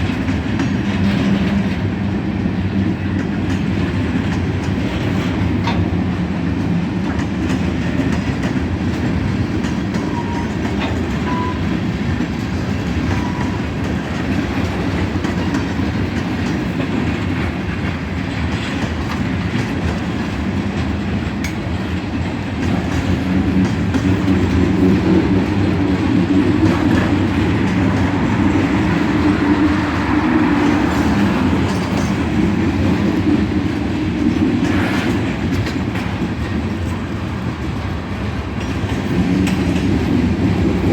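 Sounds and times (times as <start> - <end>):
freight train wheels on rail: 0.0 - 40.9.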